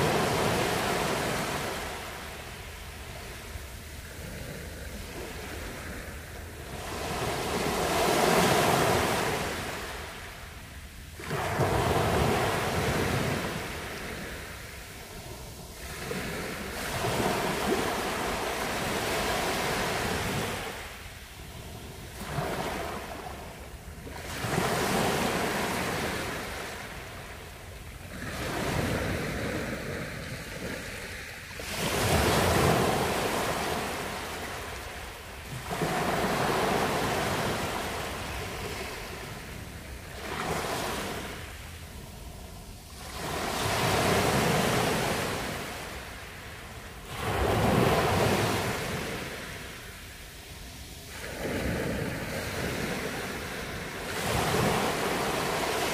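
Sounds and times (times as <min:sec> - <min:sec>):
small waves breaking on beach: 0:00.0 - 0:55.9.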